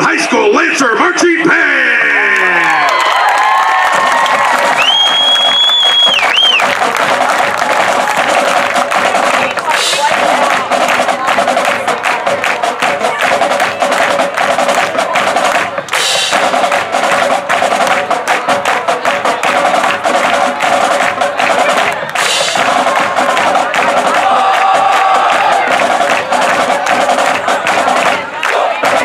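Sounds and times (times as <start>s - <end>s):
marching band playing: 0.0s - 29.0s
snare and bass drum strokes: 3.9s - 29.0s.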